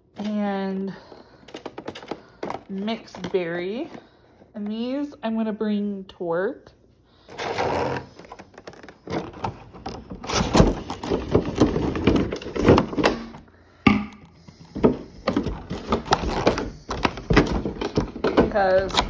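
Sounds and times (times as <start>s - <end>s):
plastic bottle and cardboard handling: 0.0s - 5.0s, 7.3s - 19.0s.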